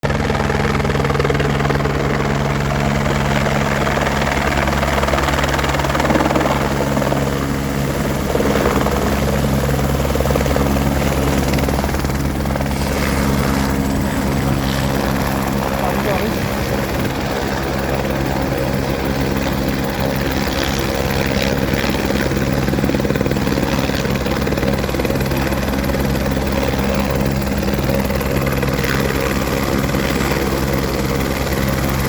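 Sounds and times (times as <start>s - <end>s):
helicopter rotor chop and engine: 0.0s - 32.0s.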